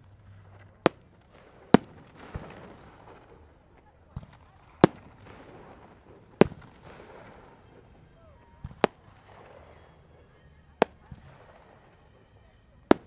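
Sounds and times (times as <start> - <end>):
fireworks bursting with bangs: 0.0 - 13.0
fireworks crackle: 0.0 - 13.0.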